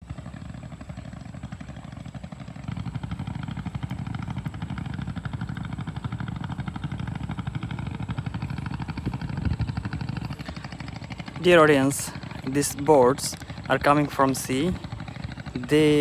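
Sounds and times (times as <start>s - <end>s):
boat diesel engines chugging: 0.0s - 16.0s.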